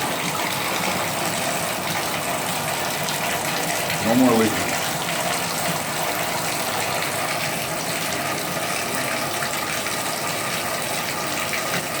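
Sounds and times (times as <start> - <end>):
shower water running: 0.0 - 12.0.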